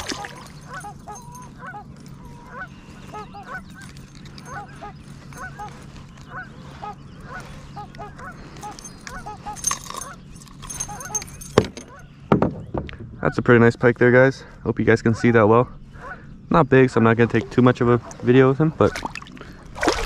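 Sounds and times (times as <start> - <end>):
distant birds calling: 0.0 - 20.0
steady low hum: 0.0 - 20.0.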